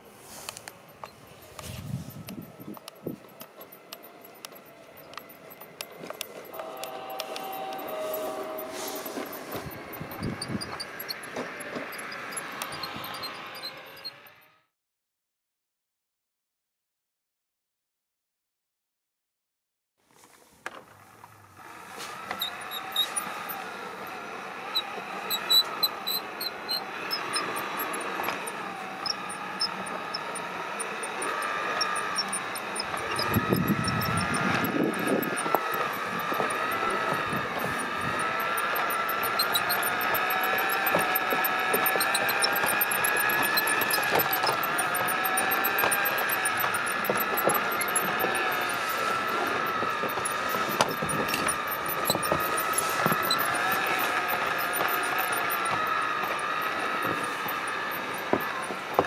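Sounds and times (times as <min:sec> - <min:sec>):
wheels squeaking on track: 0:00.0 - 0:14.6, 0:20.2 - 0:59.0
model train motor whine: 0:00.0 - 0:14.7, 0:20.4 - 0:59.0.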